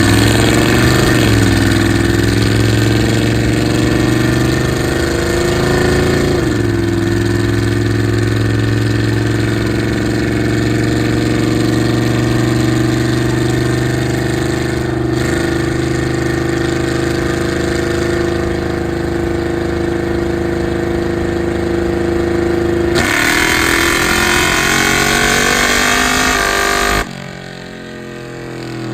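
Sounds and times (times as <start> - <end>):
car engine running hard: 0.0 - 28.9.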